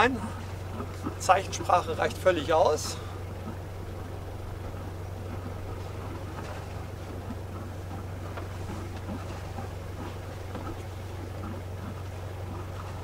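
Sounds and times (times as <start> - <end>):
diesel engine humming at low revs: 0.0 - 13.0
faint water noise: 0.0 - 13.0.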